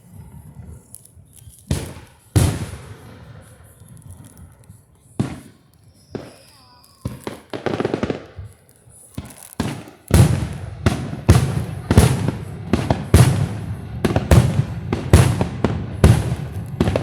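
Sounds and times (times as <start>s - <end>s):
fireworks crackling bursts: 0.0s - 17.0s
fireworks booming: 1.6s - 4.4s, 5.2s - 17.0s.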